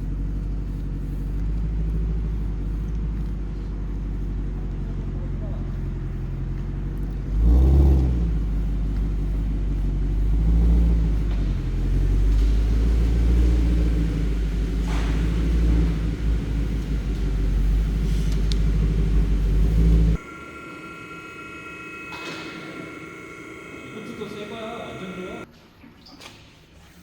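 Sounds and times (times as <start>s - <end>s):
car engine idling: 0.0s - 25.5s.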